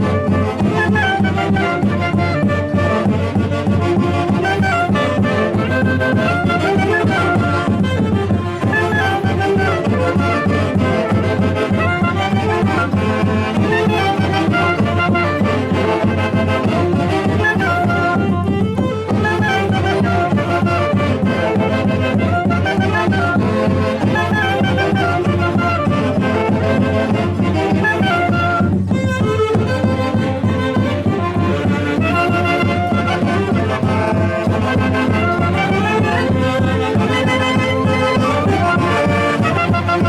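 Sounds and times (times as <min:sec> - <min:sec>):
folk orchestra playing lively tune: 0:00.0 - 0:40.0.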